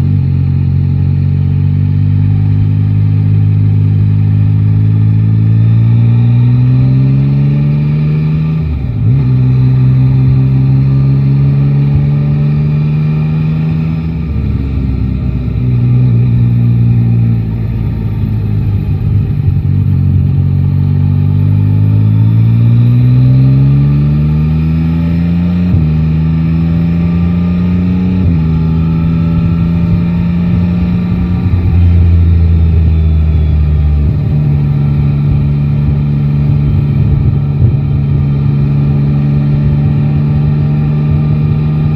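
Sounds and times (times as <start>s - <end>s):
motorcycle engine revving through gears: 0.0s - 41.9s.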